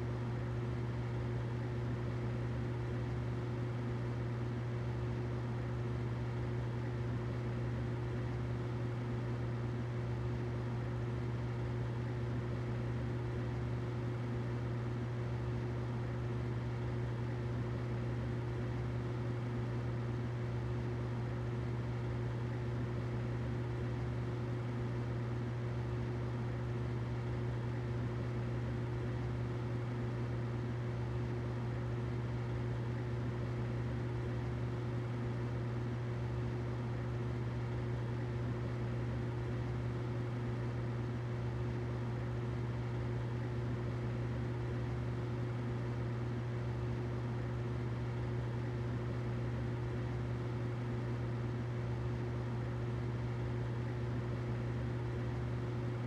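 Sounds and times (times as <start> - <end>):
humidifier running: 0.0 - 56.0.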